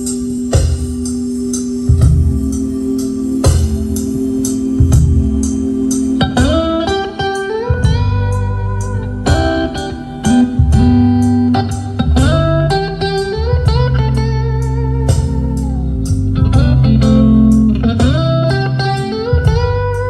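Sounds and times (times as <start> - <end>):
deep sustained bass notes: 1.8 - 20.0
slide guitar: 1.9 - 20.0.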